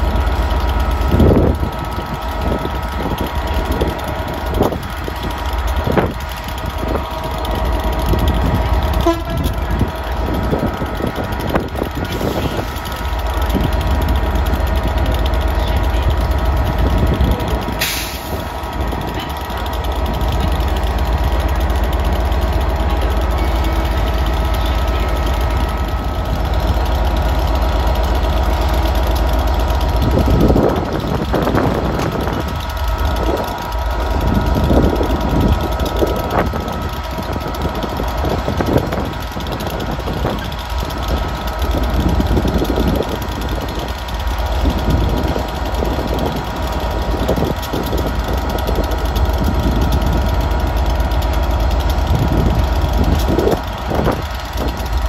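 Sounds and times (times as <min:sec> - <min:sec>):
diesel locomotive engine rumbling: 0:00.0 - 0:55.0.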